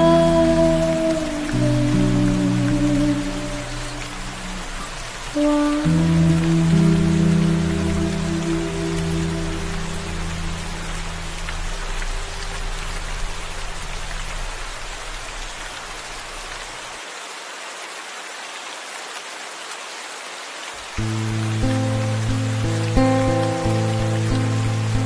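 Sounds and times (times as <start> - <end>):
low sustained musical notes: 0.0 - 16.6, 21.0 - 25.0
steady rain hiss: 0.0 - 25.0.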